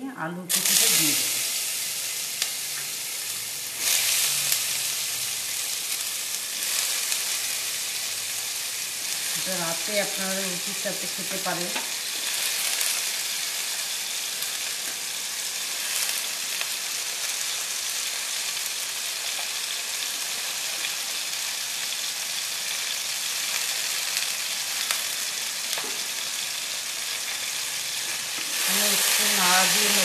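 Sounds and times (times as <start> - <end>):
potatoes sizzling in hot oil: 0.4 - 30.0.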